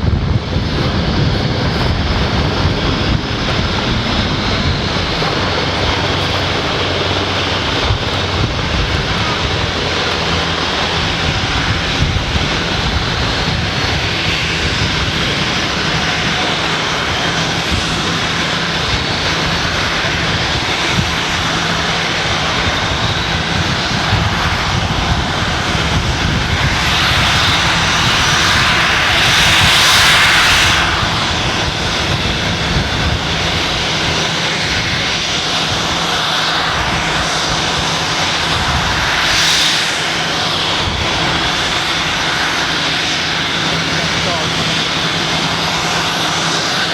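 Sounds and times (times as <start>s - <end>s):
aircraft engines running: 0.0s - 46.9s.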